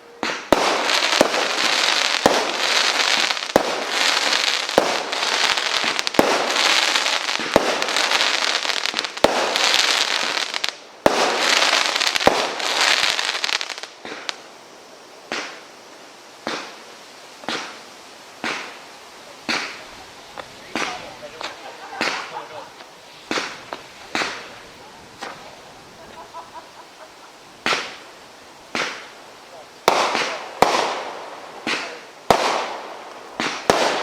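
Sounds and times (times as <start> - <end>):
fireworks bangs: 0.0 - 14.5, 15.2 - 34.0
fireworks crackling: 0.0 - 34.0.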